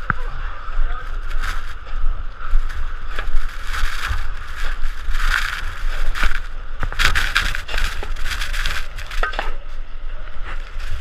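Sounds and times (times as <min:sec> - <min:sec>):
snow crunching: 0:00.0 - 0:09.8, 0:10.4 - 0:11.0
blizzard wind blowing: 0:00.0 - 0:11.0
wind buffeting microphone: 0:00.0 - 0:11.0.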